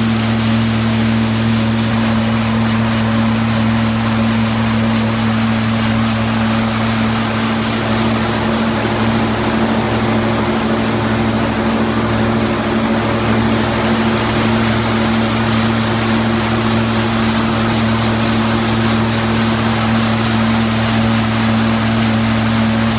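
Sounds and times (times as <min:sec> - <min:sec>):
nut thresher machine droning: 0:00.0 - 0:22.9.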